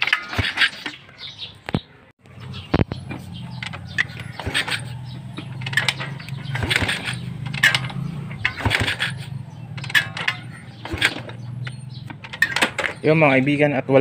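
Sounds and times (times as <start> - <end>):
motorcycle kick starter clanking: 0.0 - 14.0.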